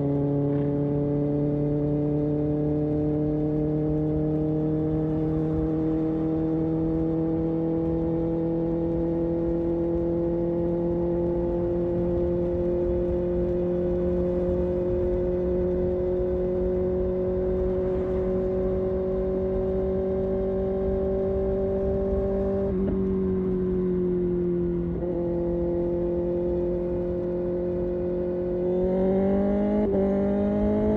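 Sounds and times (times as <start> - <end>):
motorcycle engine cruising: 0.0 - 30.9.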